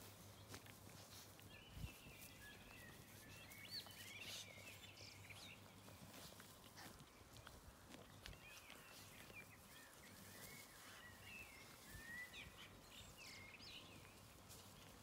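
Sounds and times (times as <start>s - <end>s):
faint birdsong with whistled notes: 0.0s - 15.0s.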